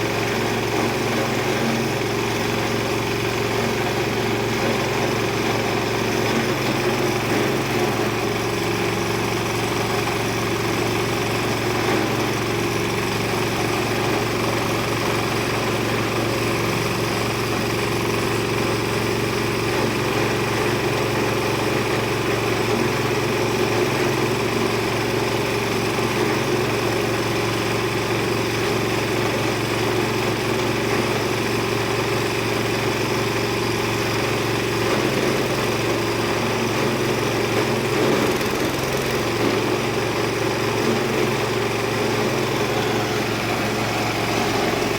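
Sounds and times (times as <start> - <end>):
grinder machine humming: 0.0 - 44.9.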